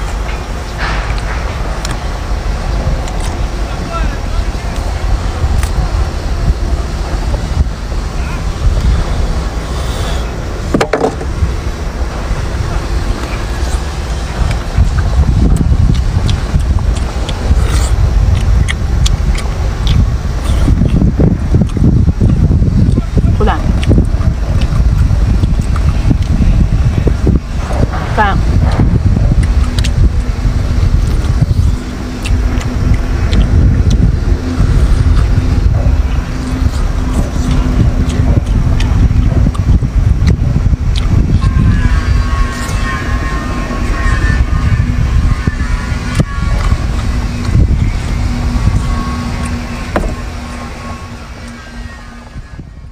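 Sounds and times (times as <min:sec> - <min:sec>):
faint steady hum: 0:00.0 - 0:52.9
low engine rumble: 0:00.0 - 0:52.9
wind buffeting microphone: 0:00.0 - 0:52.9.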